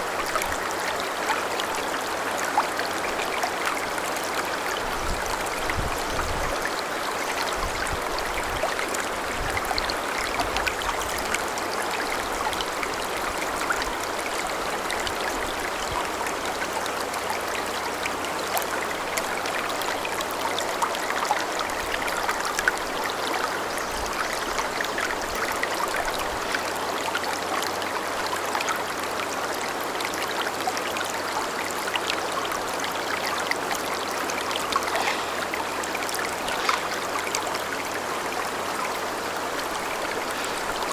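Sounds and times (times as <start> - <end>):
river babbling: 0.0 - 40.9.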